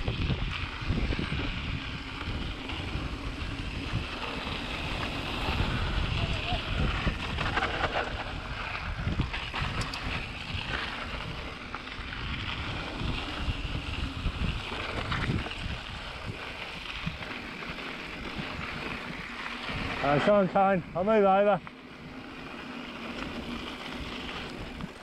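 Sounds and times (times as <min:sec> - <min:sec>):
wind noise on microphone: 0:00.0 - 0:21.1
bike rattling: 0:00.0 - 0:25.0
tyres crunching over dirt: 0:00.1 - 0:25.0.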